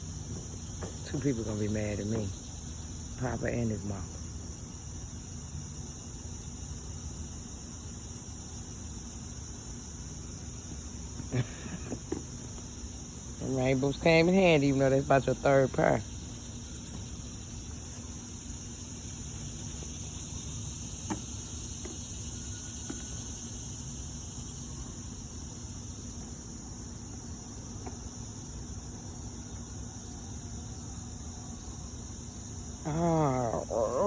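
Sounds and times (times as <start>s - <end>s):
crickets chirping chorus: 0.0s - 34.0s.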